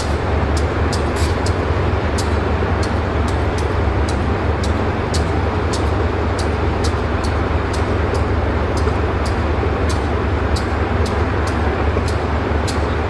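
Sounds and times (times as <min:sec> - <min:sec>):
locomotive engine humming: 0:00.0 - 0:13.0
sharp high ticks: 0:00.0 - 0:13.0.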